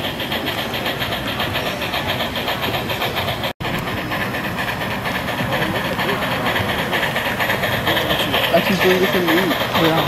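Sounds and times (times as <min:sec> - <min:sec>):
model steam locomotive chuffing: 0:00.0 - 0:10.0.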